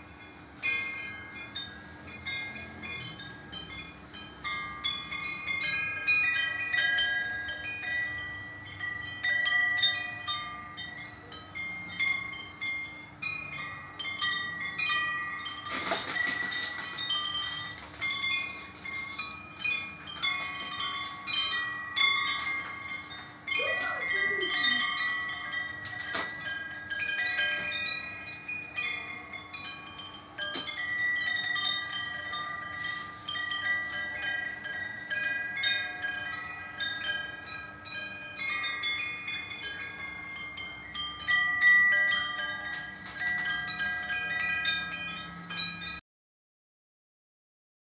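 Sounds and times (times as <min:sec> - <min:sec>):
wind chime tubes ringing: 0:00.0 - 0:46.0.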